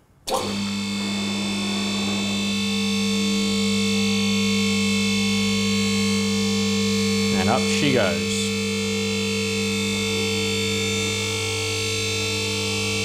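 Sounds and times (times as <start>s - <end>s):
hydraulic pump motor humming: 0.2s - 13.0s.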